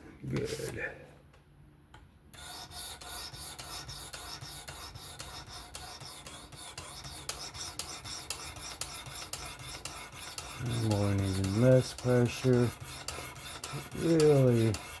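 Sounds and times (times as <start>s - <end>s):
knife rasping on sharpening stone: 2.4s - 15.0s.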